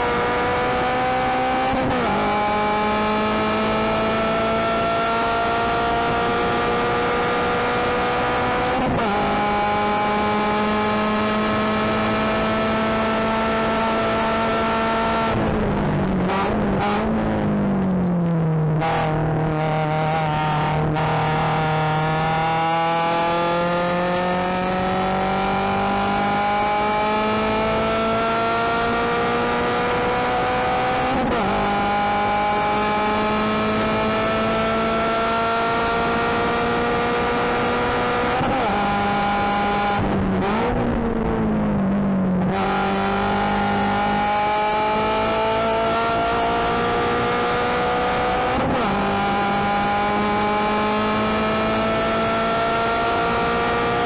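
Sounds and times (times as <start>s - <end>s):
racing car engine accelerating: 0.0s - 54.0s.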